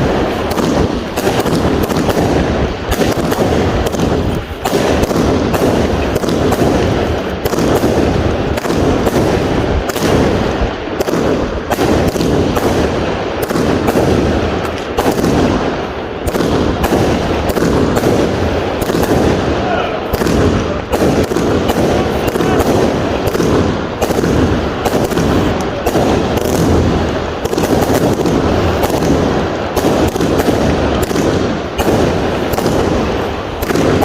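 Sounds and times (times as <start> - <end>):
firework and firecracker bangs: 0.0 - 34.0.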